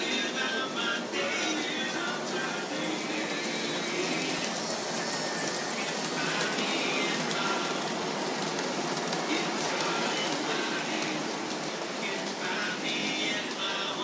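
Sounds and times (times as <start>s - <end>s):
model train wheels rattling on rails: 0.0s - 14.0s.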